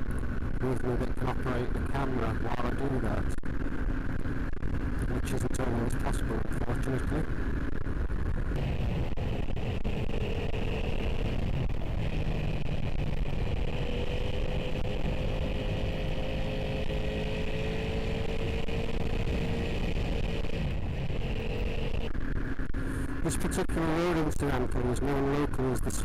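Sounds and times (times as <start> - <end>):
motorcycle engine cruising: 0.0 - 26.0
road noise: 0.0 - 26.0.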